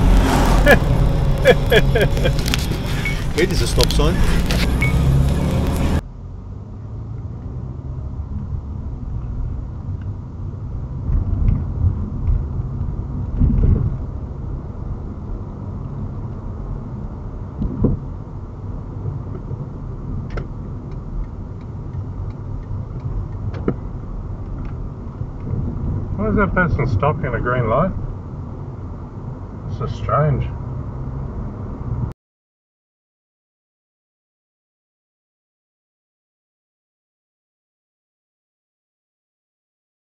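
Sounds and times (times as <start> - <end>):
car interior road noise: 0.0 - 32.1.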